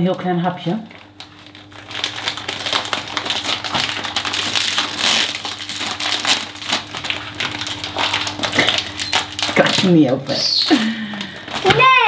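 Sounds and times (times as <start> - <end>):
plastic wrapper crinkling: 0.2 - 12.0.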